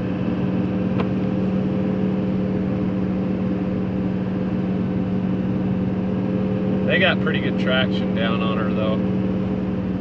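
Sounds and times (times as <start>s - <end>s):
tracked vehicle engine droning: 0.0s - 10.0s.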